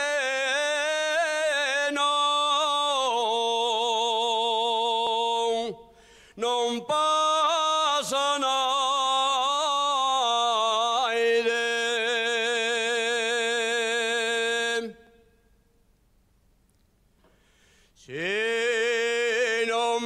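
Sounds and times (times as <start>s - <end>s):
man singing unaccompanied: 0.0s - 15.2s, 18.0s - 20.0s.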